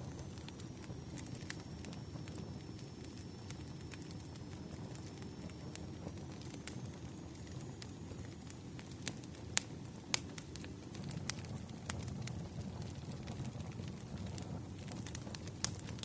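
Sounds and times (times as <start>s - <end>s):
campfire crackling: 0.0s - 16.0s
sharp pops of burning wood: 2.2s - 16.0s.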